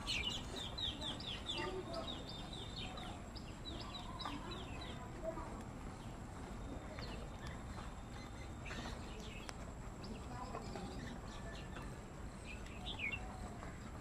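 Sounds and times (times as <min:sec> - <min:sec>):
birds chirping high and falling: 0:00.0 - 0:14.0
low background noise: 0:00.0 - 0:14.0.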